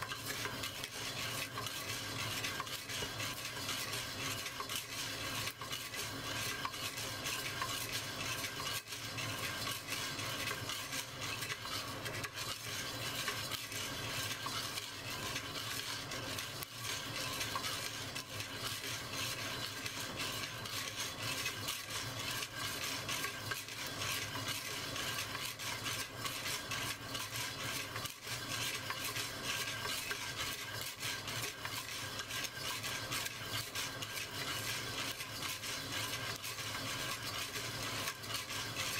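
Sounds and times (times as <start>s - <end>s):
coffee beans clattering in pot: 0.0s - 38.9s.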